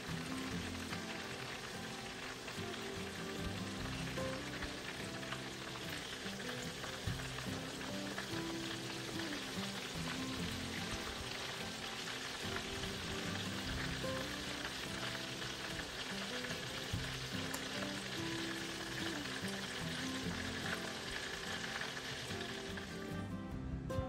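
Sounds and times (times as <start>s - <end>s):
chicken sizzling in hot oil: 0.0s - 23.5s.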